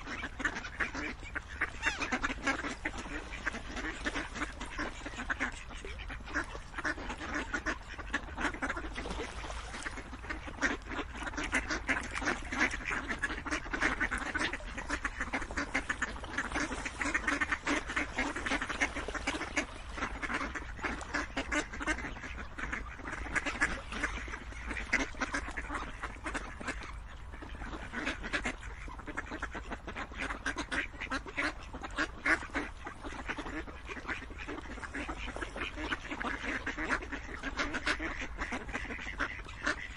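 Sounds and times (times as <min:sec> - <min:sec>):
ducks quacking: 0:00.0 - 0:39.9.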